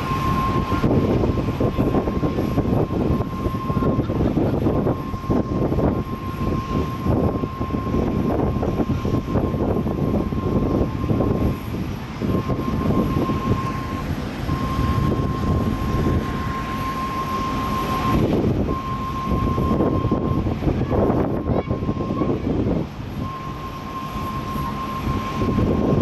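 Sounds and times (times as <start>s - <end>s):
jet airliner rumble: 0.0s - 26.0s.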